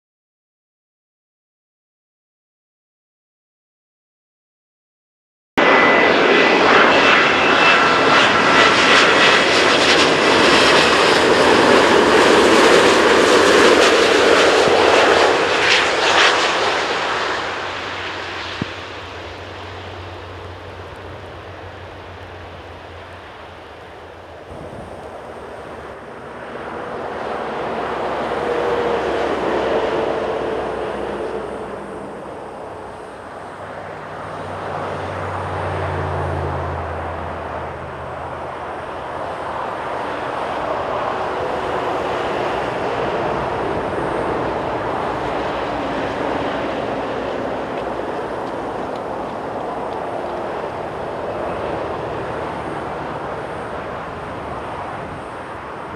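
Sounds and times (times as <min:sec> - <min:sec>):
jet airliner engine rush: 0:05.6 - 0:55.9.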